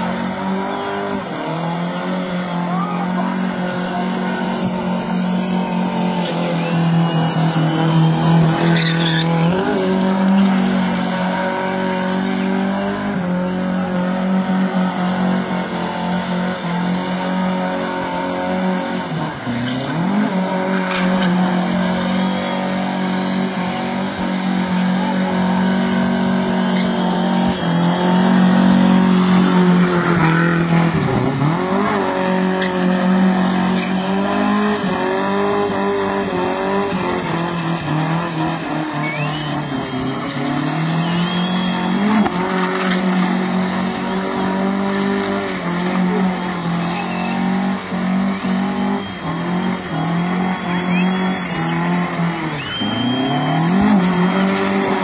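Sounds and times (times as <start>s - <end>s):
car engine revving high: 0.0s - 55.0s
tyres squealing on tarmac: 2.6s - 15.0s, 17.9s - 55.0s.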